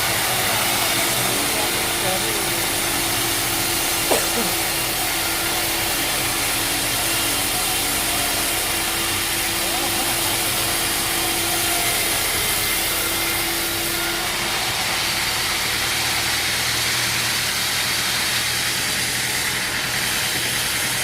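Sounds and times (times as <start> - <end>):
sawmill machinery hum: 0.0 - 21.0.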